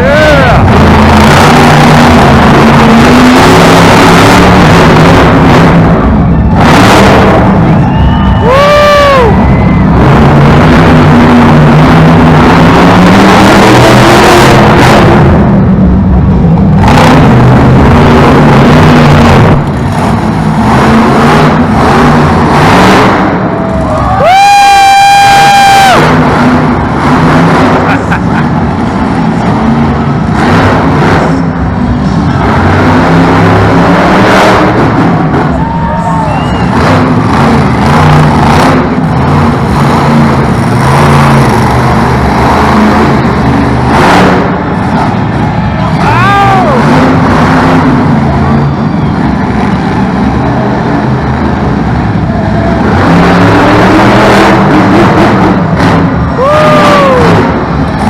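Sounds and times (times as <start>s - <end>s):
monster truck engine surging: 0.0s - 58.0s.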